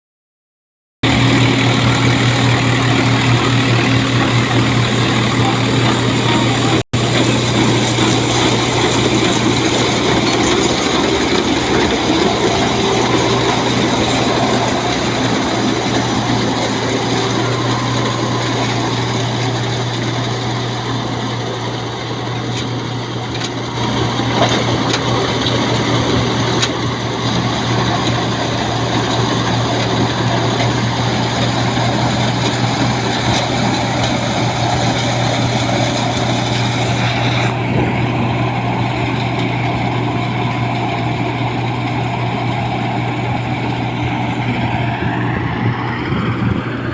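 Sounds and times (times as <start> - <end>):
tractor diesel engine running: 1.0 - 46.9.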